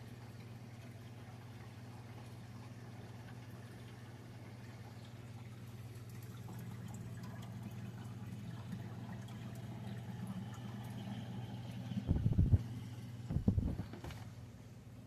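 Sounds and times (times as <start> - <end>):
water trickling: 0.0 - 14.0
aquarium filter humming: 0.0 - 15.0.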